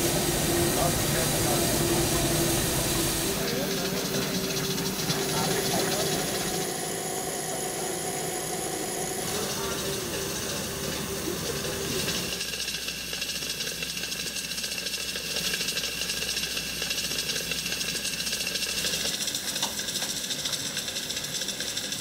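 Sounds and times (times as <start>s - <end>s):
fast mechanical rattle: 0.0s - 22.0s
steam locomotive hissing: 0.0s - 22.0s.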